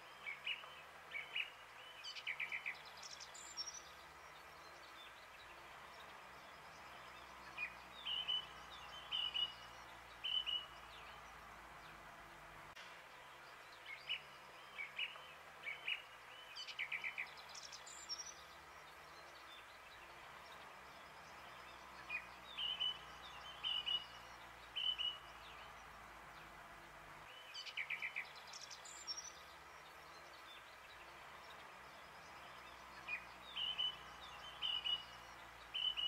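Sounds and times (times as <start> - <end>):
faint outdoor hiss: 0.0 - 36.0
small birds chirping: 0.0 - 36.0.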